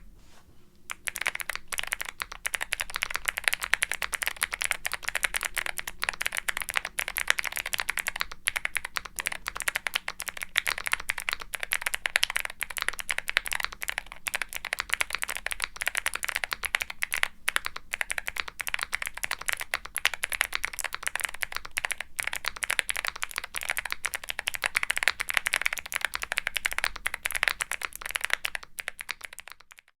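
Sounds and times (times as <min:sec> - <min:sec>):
clicky mechanical keyboard typing: 0:00.9 - 0:30.0.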